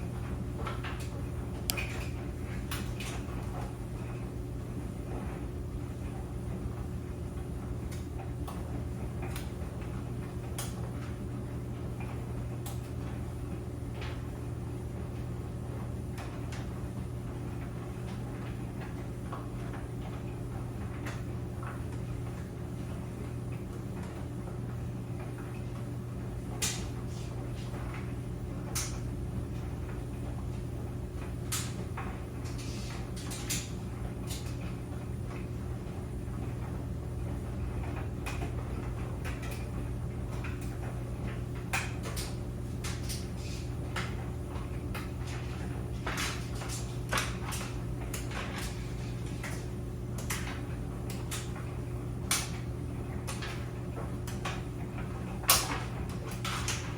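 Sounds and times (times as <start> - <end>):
clothes dryer humming: 0.0 - 56.9.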